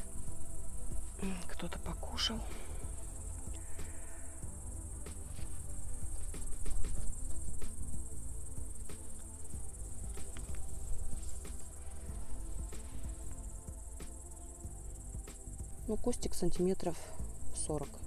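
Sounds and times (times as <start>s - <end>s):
low rumble: 0.0s - 16.5s
crickets chirring: 0.0s - 18.0s.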